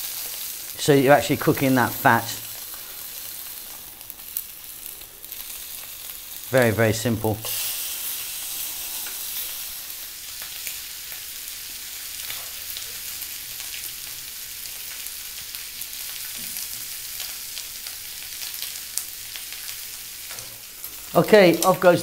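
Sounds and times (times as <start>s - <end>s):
steaks sizzling in grill pan: 0.0s - 22.0s.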